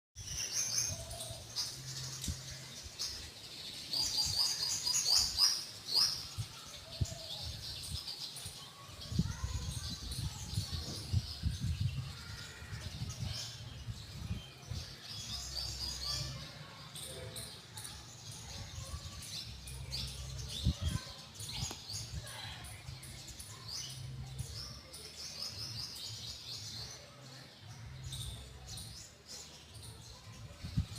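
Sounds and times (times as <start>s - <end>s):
small birds chirping: 0.2s - 30.9s.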